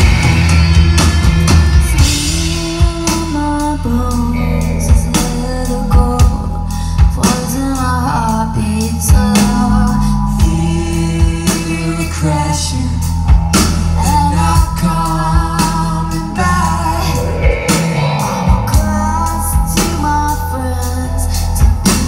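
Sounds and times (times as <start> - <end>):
live rock band playing: 0.0 - 22.0
person singing: 1.4 - 13.2, 14.0 - 22.0.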